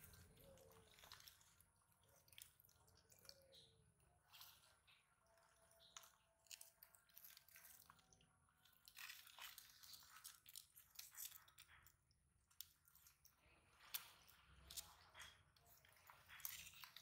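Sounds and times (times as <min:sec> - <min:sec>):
tortoises crunching vegetables: 0:00.0 - 0:17.0.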